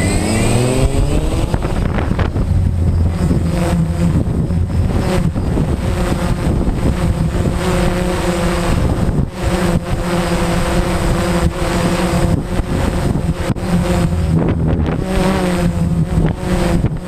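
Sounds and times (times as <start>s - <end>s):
drone propellers whirring: 0.0s - 17.0s
wind buffeting microphone: 0.0s - 17.0s.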